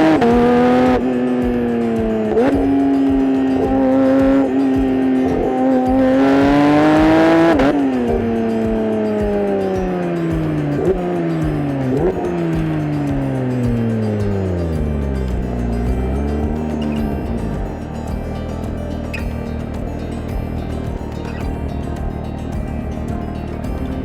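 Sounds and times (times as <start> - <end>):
sports car engine revving: 0.0 - 24.0.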